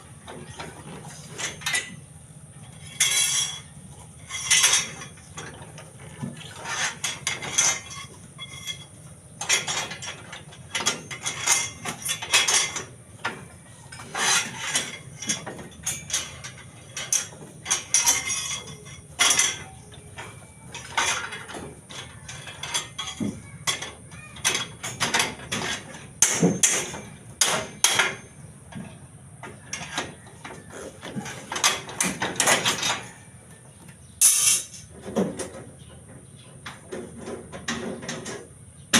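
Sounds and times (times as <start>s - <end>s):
metal bar clicking and clanking: 0.3s - 2.0s, 2.7s - 33.3s, 34.2s - 35.7s.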